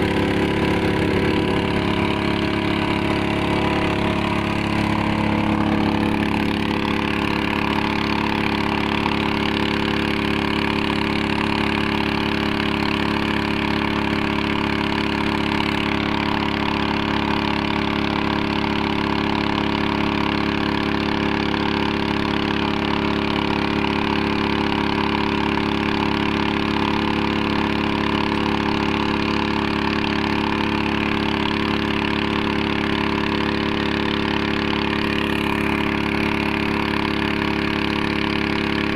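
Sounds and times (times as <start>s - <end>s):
small motor running steadily: 0.0s - 38.9s.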